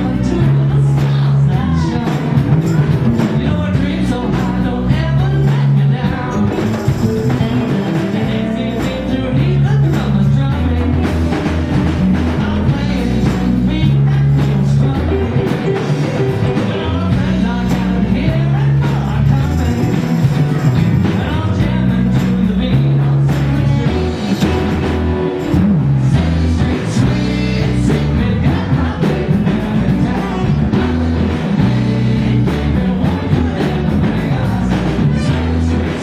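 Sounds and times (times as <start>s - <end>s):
bass guitar: 0.0s - 36.0s
conga drums: 0.0s - 36.0s
electric guitars: 0.0s - 36.0s
person singing: 0.0s - 36.0s.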